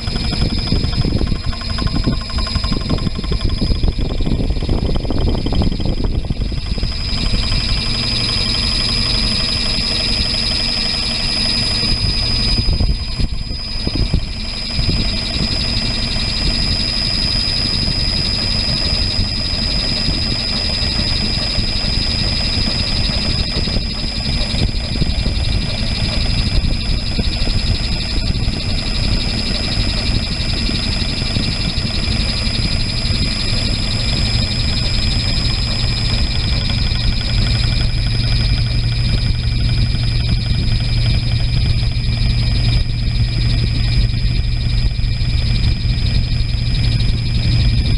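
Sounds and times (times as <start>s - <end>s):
low machine hum: 0.0s - 47.9s
planing machine whine: 0.0s - 47.9s.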